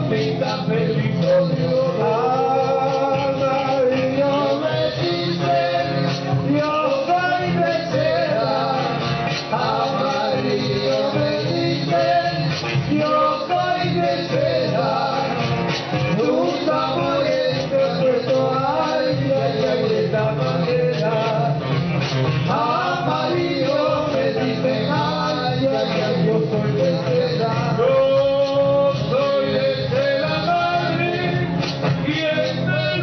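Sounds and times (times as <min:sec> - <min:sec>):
guitar: 0:00.0 - 0:33.0
men singing: 0:00.0 - 0:33.0
percussion: 0:00.0 - 0:33.0.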